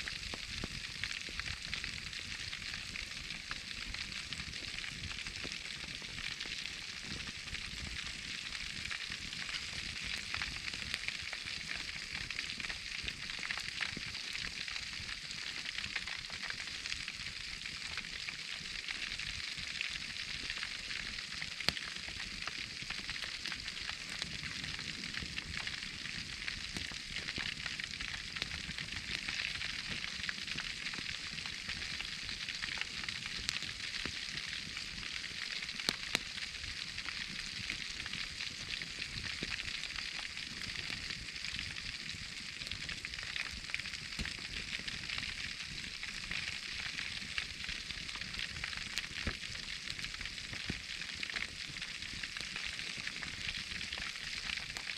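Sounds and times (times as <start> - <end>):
burning wood crackling and popping: 0.0 - 54.9
meat sizzling in fire: 0.0 - 54.9.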